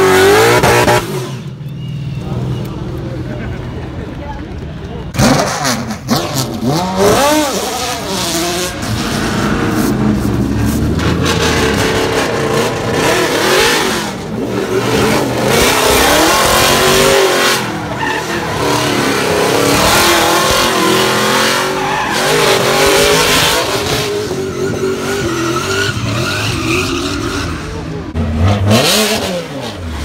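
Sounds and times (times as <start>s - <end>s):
race car engine revving: 0.0s - 1.6s, 5.1s - 30.0s.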